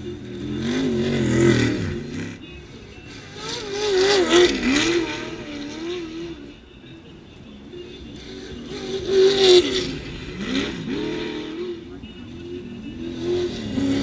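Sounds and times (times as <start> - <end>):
race vehicle engine revving: 0.0 - 14.0.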